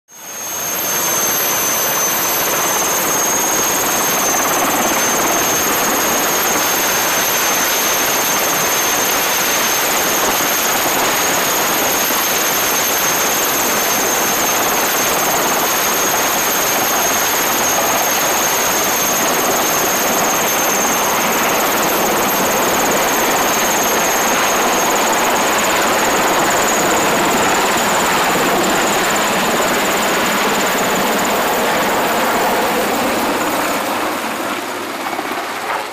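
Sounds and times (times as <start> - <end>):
helicopter rotor rush: 0.1 - 35.9
turbine engine whine: 0.1 - 35.9.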